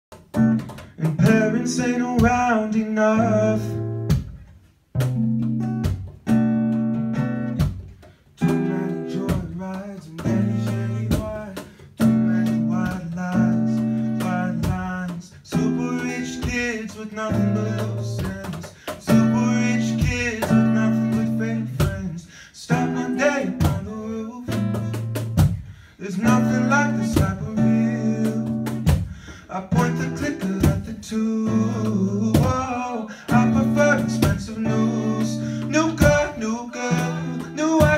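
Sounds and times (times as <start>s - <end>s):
strummed acoustic guitar: 0.1s - 37.9s
person singing: 1.0s - 3.9s, 8.4s - 25.2s, 26.0s - 37.9s.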